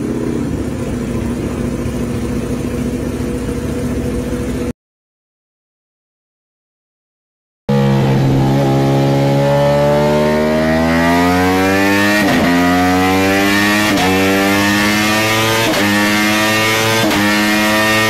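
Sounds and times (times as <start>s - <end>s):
motorcycle engine revving on a dyno: 0.0s - 4.7s, 7.7s - 18.0s.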